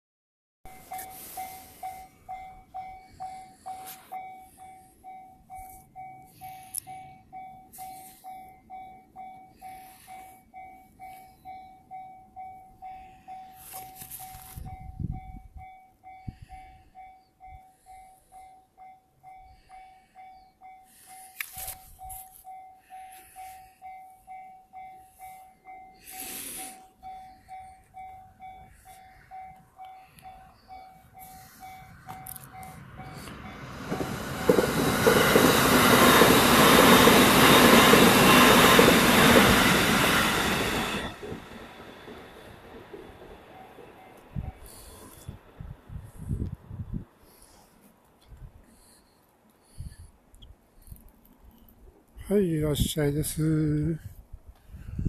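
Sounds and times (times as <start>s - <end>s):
railroad crossing bell dinging: 0.7s - 45.9s.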